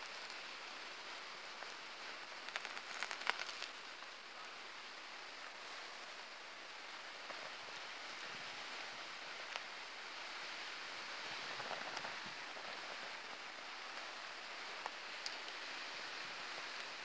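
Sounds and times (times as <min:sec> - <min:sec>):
faint crackles and ticks: 0:00.0 - 0:17.0.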